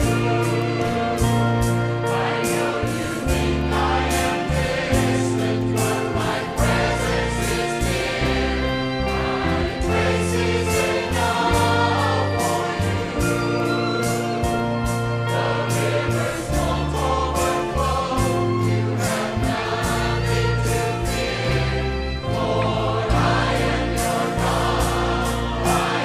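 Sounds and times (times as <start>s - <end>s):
choir singing: 0.0s - 26.0s
orchestra playing: 0.0s - 26.0s.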